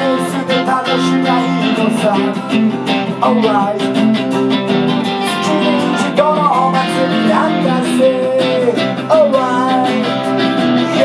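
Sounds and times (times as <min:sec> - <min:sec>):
sliding melody line: 0:00.0 - 0:11.0
strummed acoustic guitar: 0:00.0 - 0:11.0.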